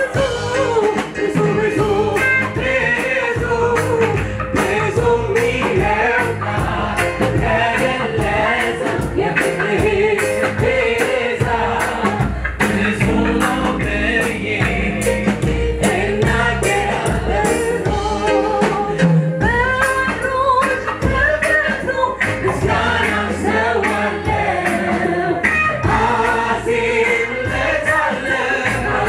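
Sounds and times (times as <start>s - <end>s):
choir singing gospel song: 0.0s - 19.5s, 21.4s - 29.0s
band with drum beat and bass: 0.0s - 29.0s.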